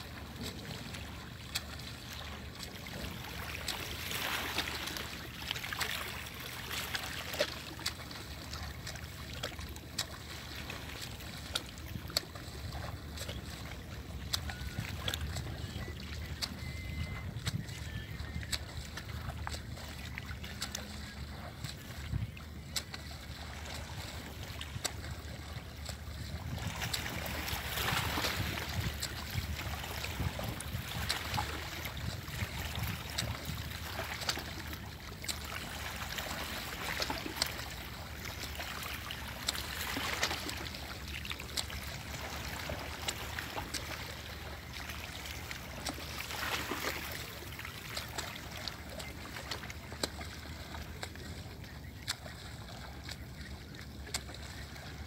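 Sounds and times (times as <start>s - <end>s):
boat motor running: 0.0s - 55.0s
water washing along hull: 0.0s - 55.0s.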